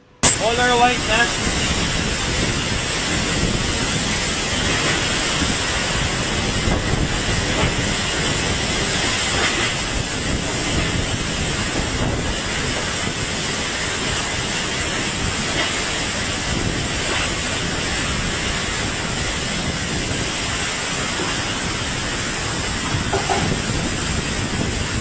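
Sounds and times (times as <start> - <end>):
strong wind: 0.0 - 25.0
driving rain: 0.2 - 25.0.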